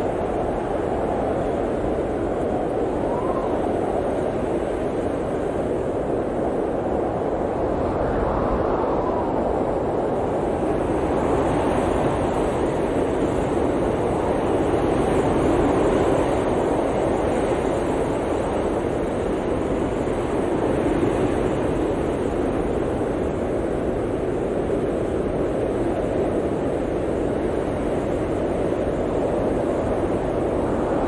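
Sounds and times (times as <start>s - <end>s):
blizzard wind blowing: 0.0s - 31.0s.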